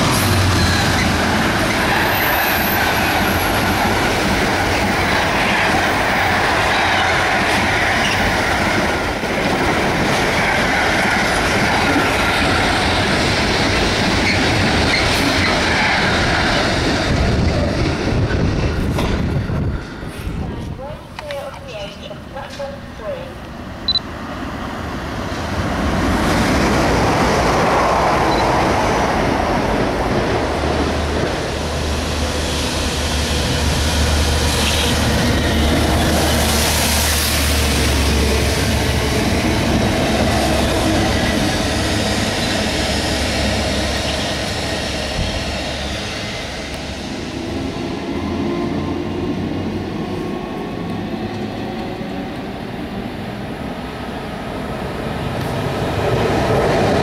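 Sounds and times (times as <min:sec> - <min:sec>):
train wheels rumbling and clattering: 0:00.0 - 0:23.8, 0:24.4 - 0:57.0.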